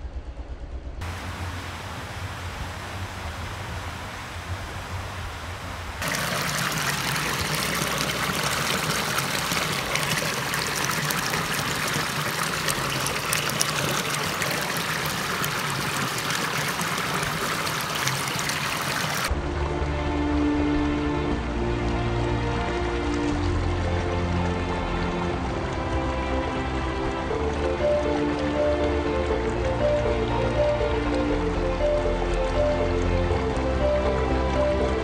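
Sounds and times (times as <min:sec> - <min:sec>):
stream water running and splashing: 0:01.0 - 0:35.0.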